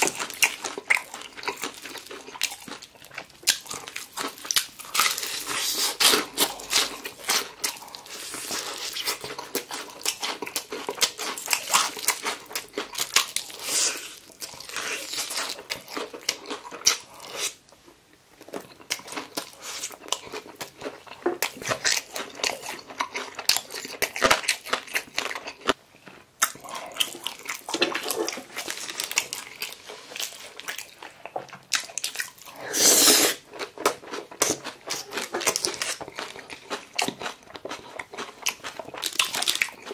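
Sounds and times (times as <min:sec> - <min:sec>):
chewing: 0:00.0 - 0:17.6, 0:18.4 - 0:39.9
crispy batter crunching: 0:00.0 - 0:17.6, 0:18.4 - 0:32.6, 0:33.4 - 0:39.9.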